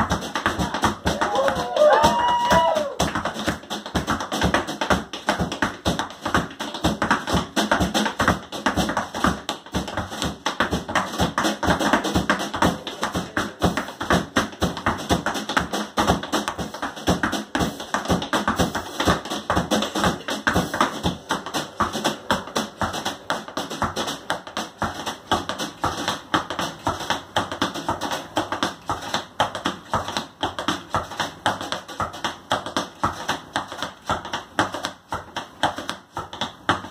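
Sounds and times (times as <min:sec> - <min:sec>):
tap shoes on tap board: 0:00.0 - 0:36.9.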